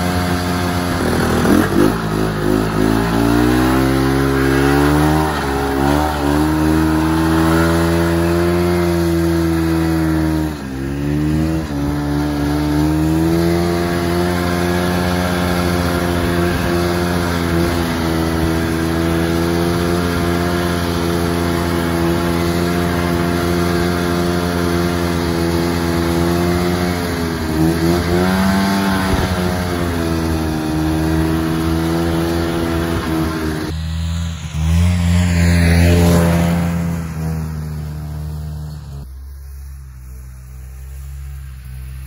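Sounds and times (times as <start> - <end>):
engine with pitch gliding down: 0.0 - 42.0
snowmobile engine running: 0.0 - 42.0.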